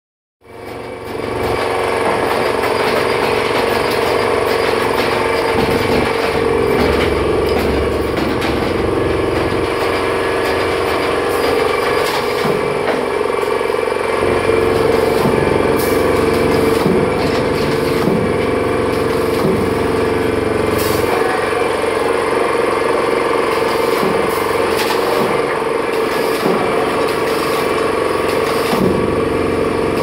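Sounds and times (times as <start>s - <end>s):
welding machine buzzing: 0.5s - 30.0s.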